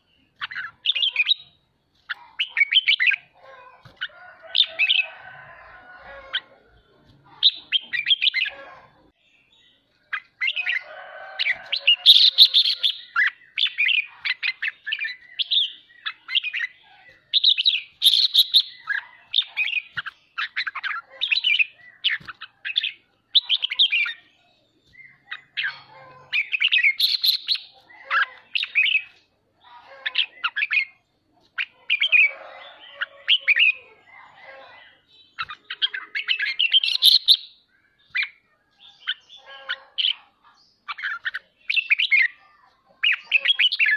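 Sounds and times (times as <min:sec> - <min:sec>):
bird singing and chattering: 0:00.0 - 0:05.2, 0:06.2 - 0:43.9.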